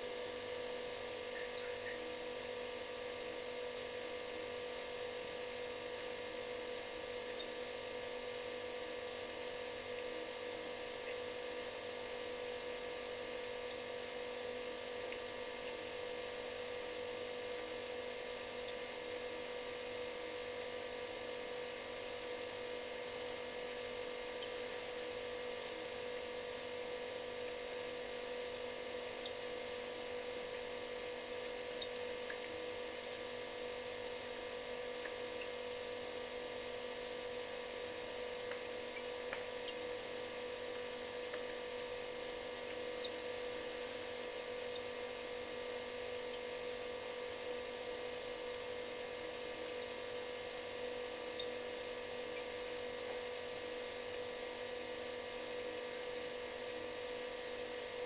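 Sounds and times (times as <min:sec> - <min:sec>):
refrigerator humming: 0:00.0 - 0:58.0.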